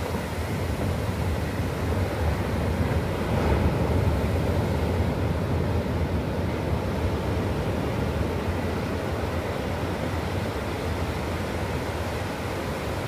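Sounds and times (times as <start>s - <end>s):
waves breaking on beach: 0.0s - 13.0s
wind rumble on microphone: 0.0s - 13.0s.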